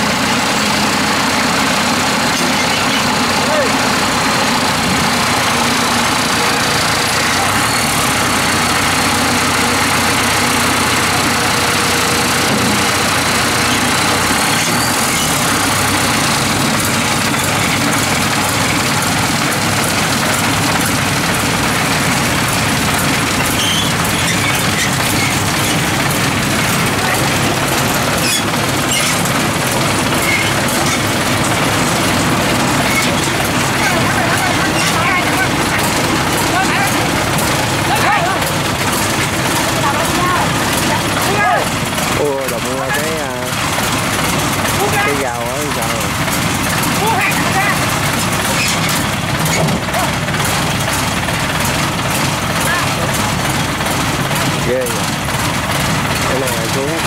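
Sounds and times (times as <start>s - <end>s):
diesel engine running: 0.0s - 57.0s
tracks clanking on steel ramps: 0.0s - 57.0s.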